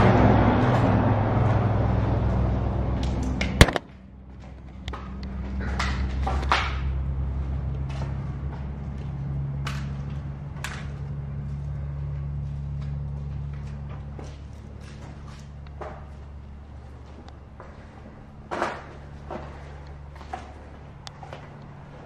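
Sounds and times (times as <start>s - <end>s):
low engine-like hum: 0.0s - 22.0s
footsteps on concrete and debris: 3.0s - 22.0s.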